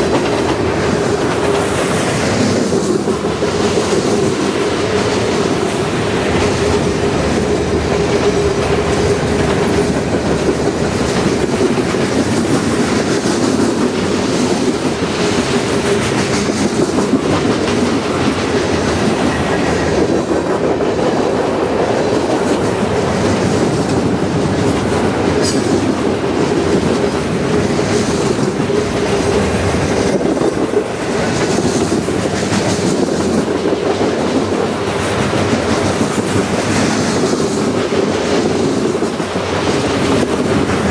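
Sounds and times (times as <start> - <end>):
train wheels clattering over rail joints: 0.0 - 40.9.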